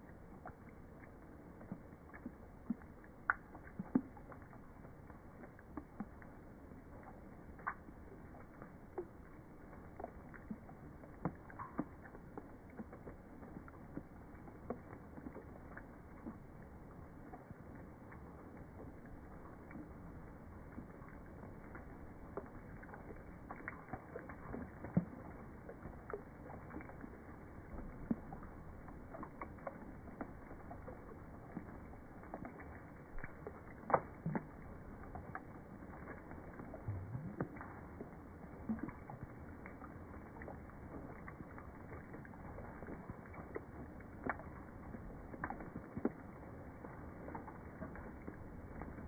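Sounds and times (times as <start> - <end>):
drips and plops in water: 0.0 - 49.0.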